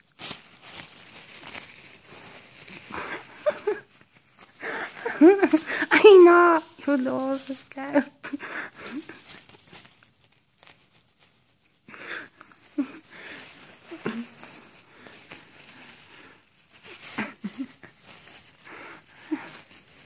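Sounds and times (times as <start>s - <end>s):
tissue paper crinkling: 0.0s - 20.0s.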